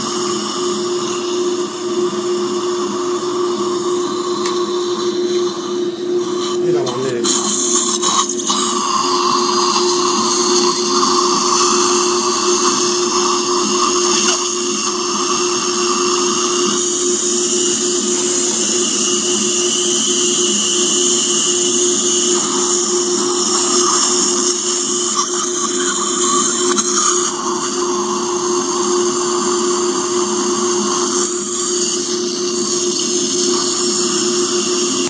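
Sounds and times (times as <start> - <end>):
suction aspirator hiss: 0.0 - 35.0
motor hum: 1.4 - 35.0.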